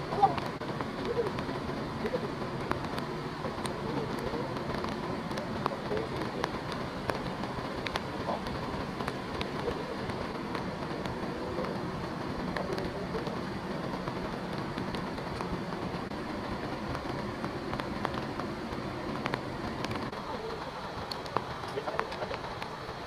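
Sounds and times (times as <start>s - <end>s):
drops ticking: 0.0s - 23.0s
rain hissing: 0.0s - 23.0s.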